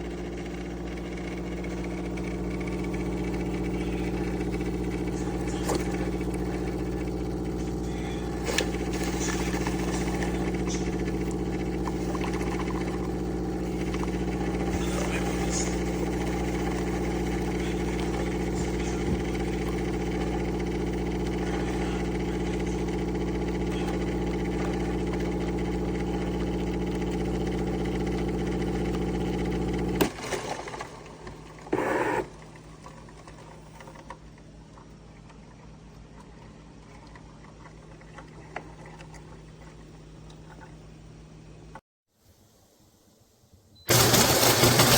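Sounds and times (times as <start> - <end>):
appliance motor humming: 0.0 - 40.8, 43.9 - 44.9.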